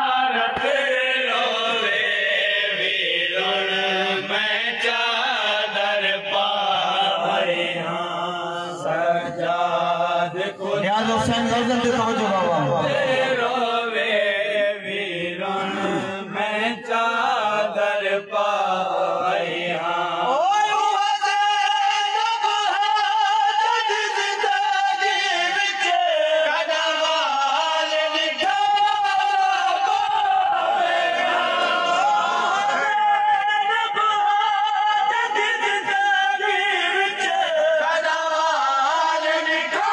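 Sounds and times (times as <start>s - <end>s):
group of men singing along: 0.0s - 39.9s.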